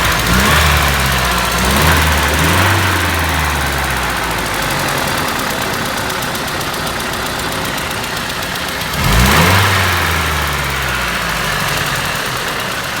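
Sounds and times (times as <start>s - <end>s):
petrol engine idling with ticking: 0.0s - 13.0s.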